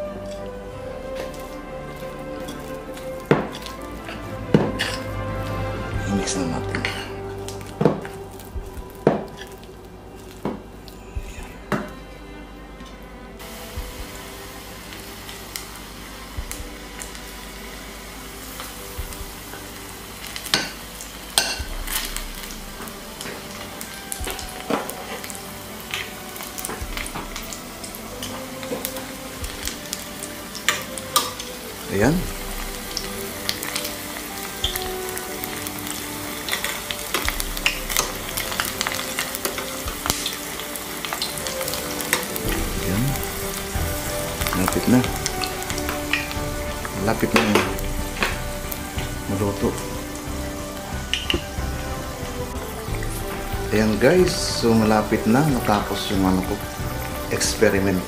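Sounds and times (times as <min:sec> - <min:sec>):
oil sizzling in a pan: 0:00.0 - 0:11.5, 0:13.4 - 0:58.0.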